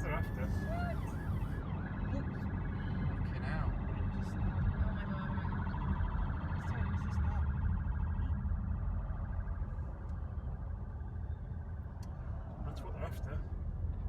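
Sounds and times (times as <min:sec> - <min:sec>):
police siren warbling: 0:00.0 - 0:13.8
car engine and road noise: 0:00.0 - 0:14.0.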